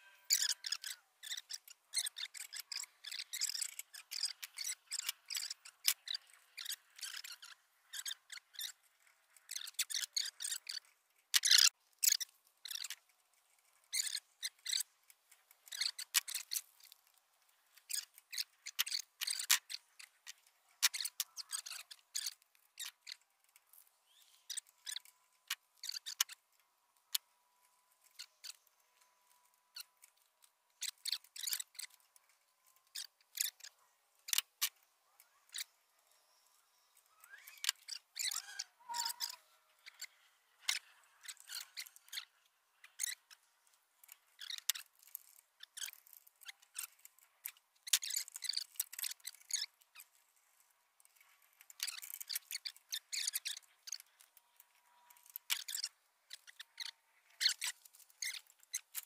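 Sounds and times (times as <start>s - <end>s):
light clicks and scrapes: 0.3s - 59.0s.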